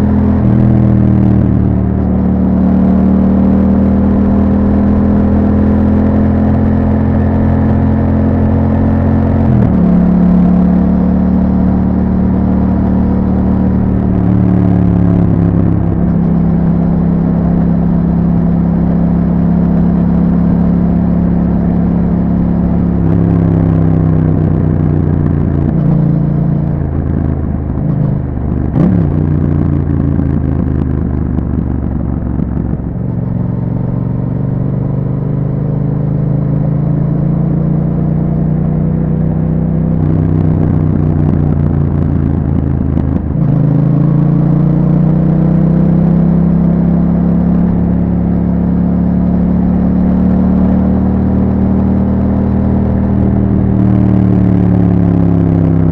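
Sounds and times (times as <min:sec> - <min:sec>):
motorcycle engine while riding: 0:00.0 - 0:55.9.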